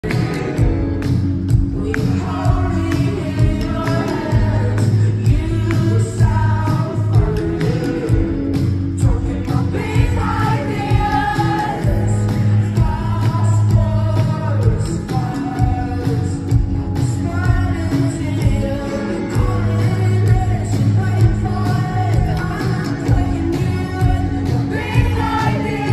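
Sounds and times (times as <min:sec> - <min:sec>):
bass line: 0:00.0 - 0:25.9
drums: 0:00.0 - 0:25.9
electric guitars: 0:00.0 - 0:25.9
keyboards: 0:00.0 - 0:25.9
woman singing: 0:01.6 - 0:16.4, 0:17.2 - 0:25.9.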